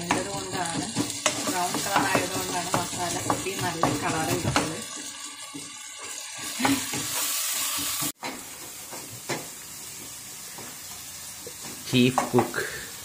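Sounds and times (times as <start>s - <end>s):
masala sizzling in pan: 0.0s - 13.0s.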